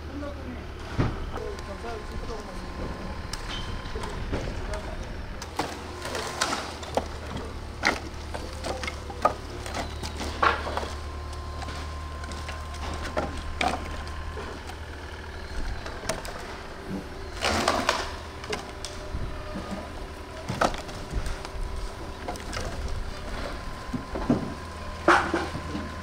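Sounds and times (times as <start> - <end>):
steady low hum: 0.0 - 26.0
firewood logs knocking together: 0.8 - 26.0.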